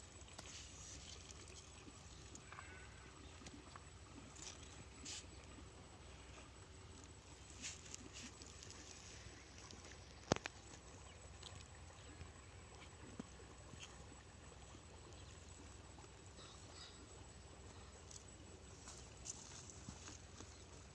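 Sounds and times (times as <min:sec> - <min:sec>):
faint background hum: 0:00.0 - 0:20.9.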